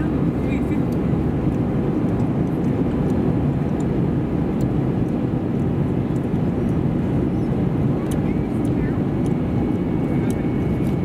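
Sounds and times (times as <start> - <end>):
airplane cabin engine and airflow noise: 0.0 - 11.0.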